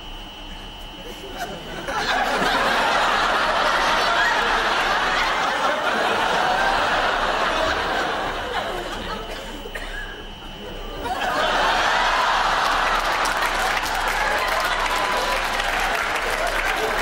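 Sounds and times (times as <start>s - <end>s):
studio audience laughing: 1.0s - 17.0s.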